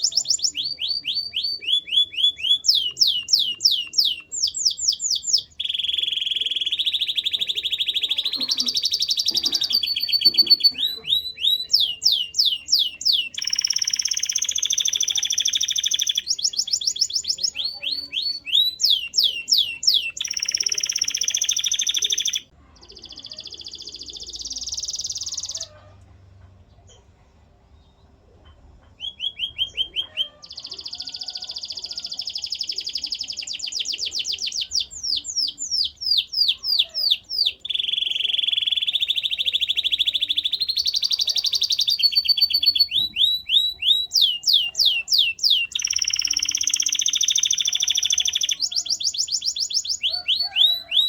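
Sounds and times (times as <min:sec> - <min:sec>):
canary singing: 0:00.0 - 0:25.9, 0:28.9 - 0:51.0.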